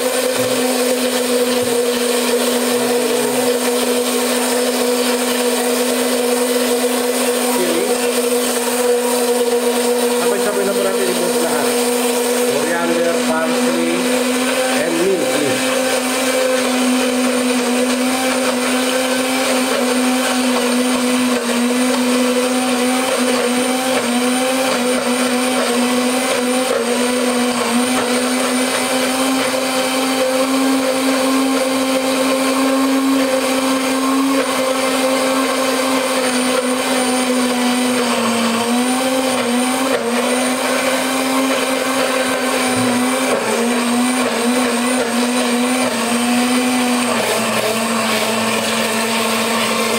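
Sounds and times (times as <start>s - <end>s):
blender motor running: 0.0s - 49.9s.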